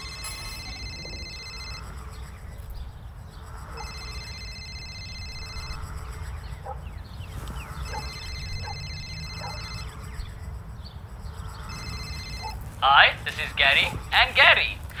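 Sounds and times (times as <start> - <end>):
phone ringing: 0.0 - 2.7, 3.3 - 6.7, 7.3 - 15.0.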